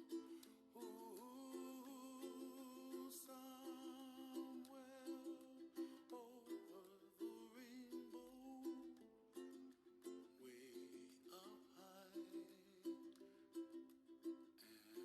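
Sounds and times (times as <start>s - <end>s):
gentle ukulele music: 0.0s - 15.0s.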